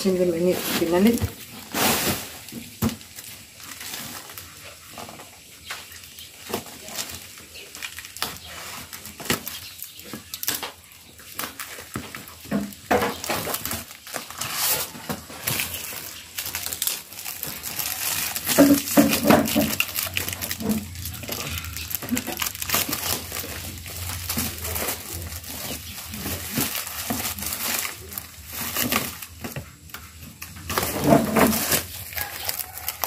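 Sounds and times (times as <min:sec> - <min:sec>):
packaging rustling and crinkling: 0:00.0 - 0:33.0.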